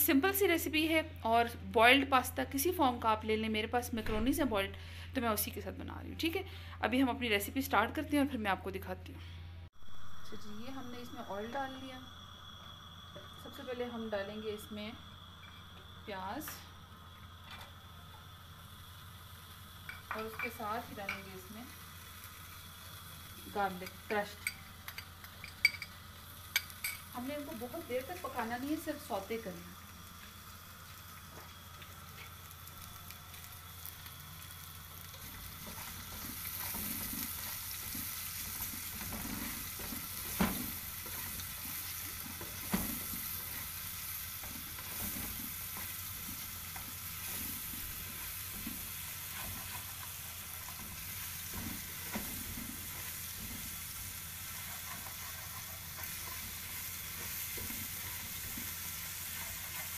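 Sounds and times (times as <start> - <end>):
onion and garlic sizzling in oil: 0.0 - 8.8, 9.7 - 59.9.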